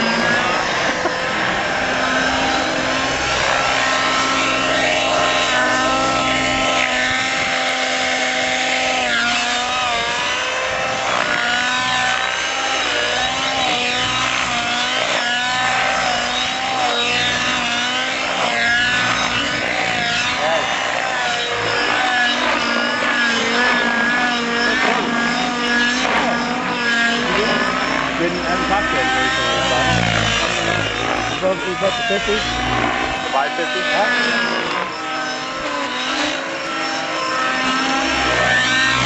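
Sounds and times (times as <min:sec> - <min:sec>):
model helicopter engine whining: 0:00.0 - 0:39.0.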